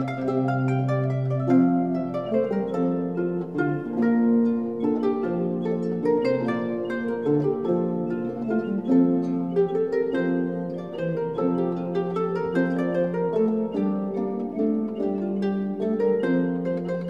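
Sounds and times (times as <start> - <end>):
plucked string tune: 0.0 - 17.0.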